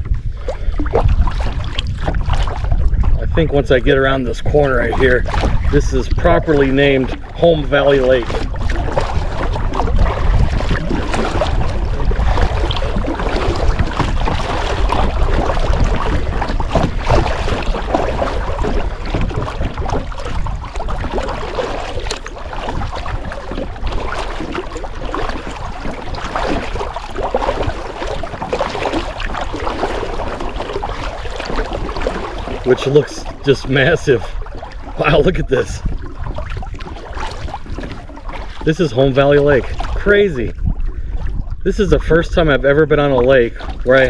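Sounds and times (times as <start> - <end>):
paddle water splashing: 0.0 - 44.0
wind on microphone: 0.0 - 44.0.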